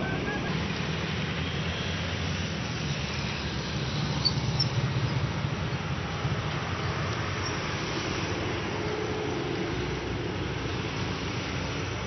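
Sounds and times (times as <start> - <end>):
street background rumble: 0.0 - 12.0.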